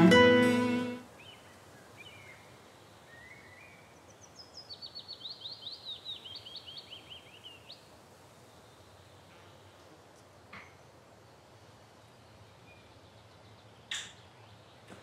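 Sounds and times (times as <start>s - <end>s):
songbird singing: 0.0s - 9.9s, 11.7s - 15.0s
faint outdoor hiss: 0.0s - 15.0s.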